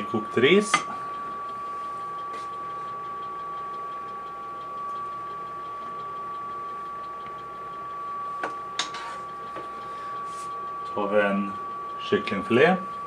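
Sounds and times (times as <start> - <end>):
grill extraction fan whine: 0.0 - 13.0.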